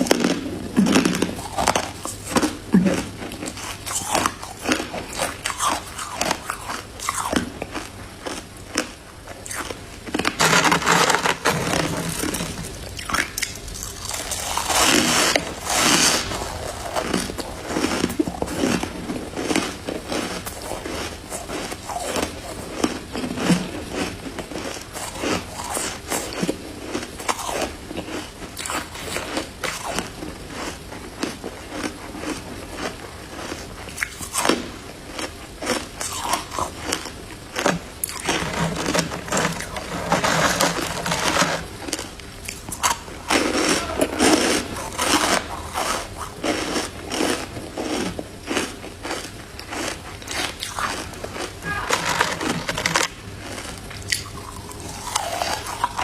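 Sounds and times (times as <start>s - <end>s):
ice being bitten and chewed: 0.0s - 56.0s.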